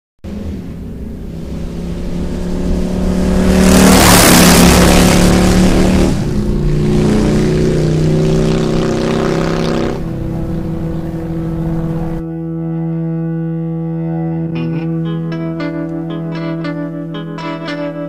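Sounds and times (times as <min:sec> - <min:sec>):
held synth chords: 0:00.3 - 0:18.0.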